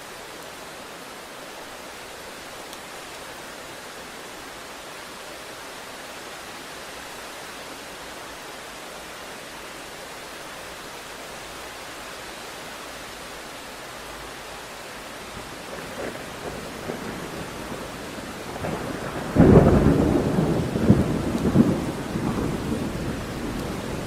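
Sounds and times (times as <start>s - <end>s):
heavy rain hiss: 0.0s - 24.0s.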